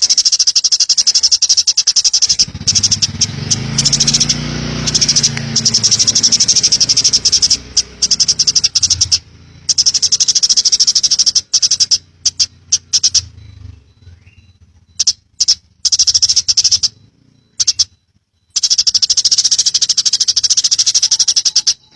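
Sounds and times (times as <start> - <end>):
sparrow chattering trill: 0.0 - 21.9.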